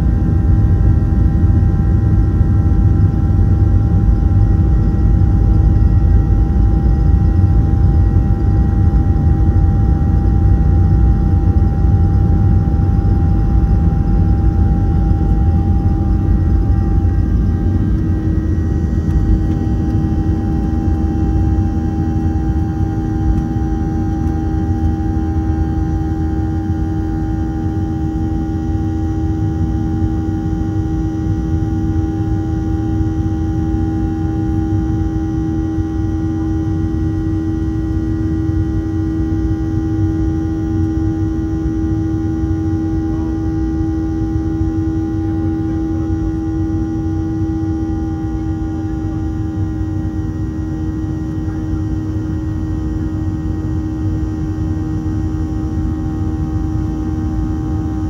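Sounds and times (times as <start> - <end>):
constant humming tone: 0.0 - 58.0
jet cabin rumble: 0.0 - 58.0.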